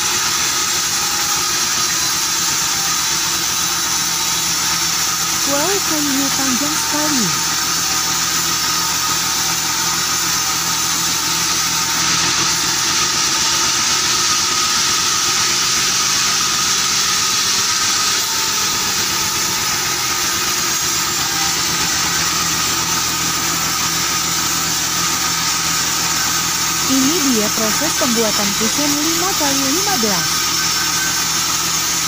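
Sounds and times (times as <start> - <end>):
band saw machinery droning: 0.0 - 32.0.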